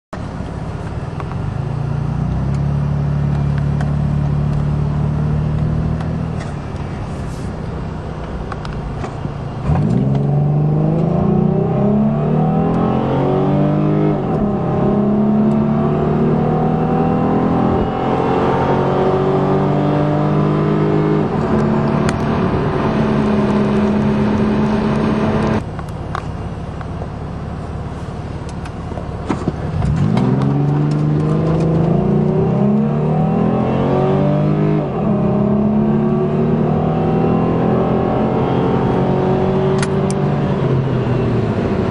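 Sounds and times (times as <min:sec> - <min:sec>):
car engine at full throttle: 0:00.2 - 0:41.9.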